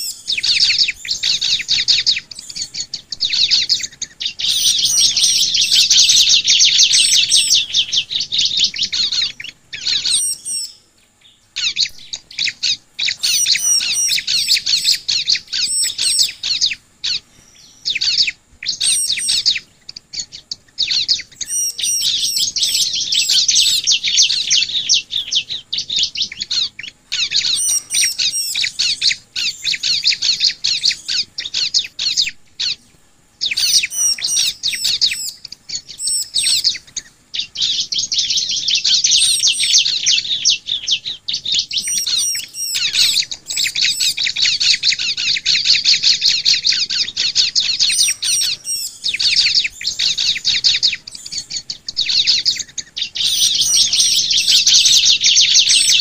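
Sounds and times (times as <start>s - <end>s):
birds trilling and chirping: 0.0s - 56.0s.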